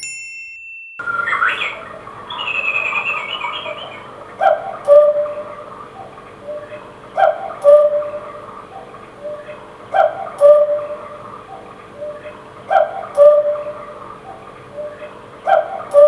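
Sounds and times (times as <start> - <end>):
cuckoo clock calling: 1.0 - 16.0.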